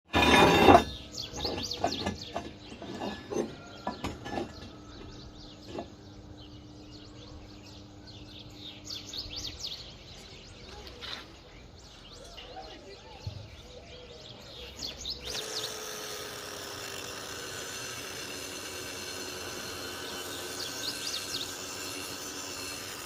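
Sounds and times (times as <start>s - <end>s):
small birds chirping: 0.7s - 23.0s.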